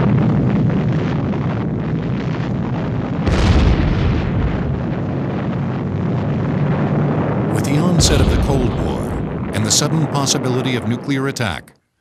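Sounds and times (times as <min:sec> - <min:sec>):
explosion rumble: 0:00.0 - 0:11.7.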